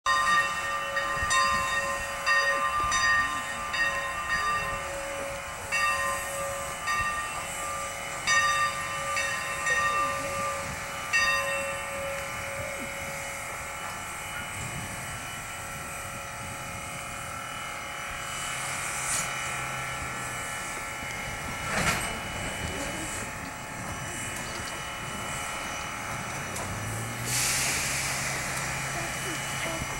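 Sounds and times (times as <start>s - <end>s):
steam locomotive bell ringing: 0.1s - 29.9s
steam hissing: 1.9s - 29.9s.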